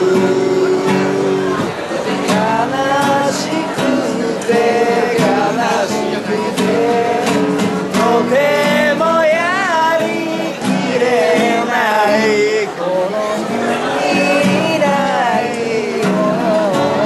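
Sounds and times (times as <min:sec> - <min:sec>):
person singing: 0:00.0 - 0:17.0
strummed nylon-string guitar: 0:00.0 - 0:17.0.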